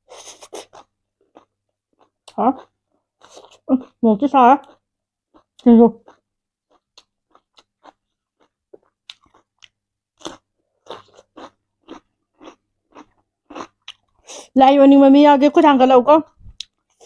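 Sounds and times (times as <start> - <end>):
chewing and crunching chicken: 0.1 - 4.0, 4.6 - 14.4, 16.2 - 17.0.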